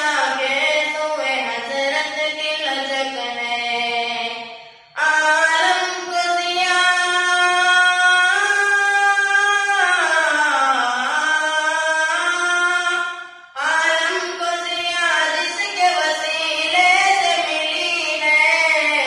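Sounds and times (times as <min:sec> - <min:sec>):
boy singing unaccompanied: 0:00.0 - 0:04.4, 0:05.0 - 0:19.0.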